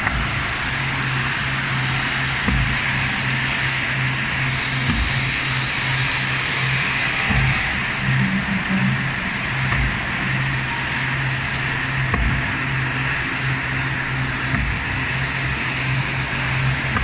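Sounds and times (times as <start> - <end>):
electric motors humming and hissing: 0.0 - 17.0.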